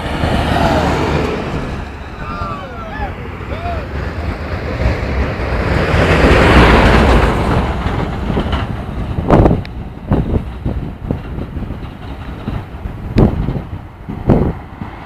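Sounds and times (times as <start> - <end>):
road vehicle rushing and rumbling: 0.0 - 15.0.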